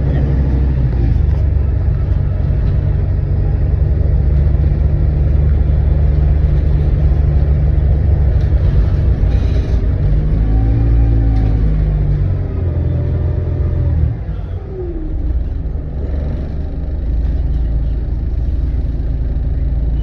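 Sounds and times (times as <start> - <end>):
bus diesel engine rumbling: 0.0 - 20.0.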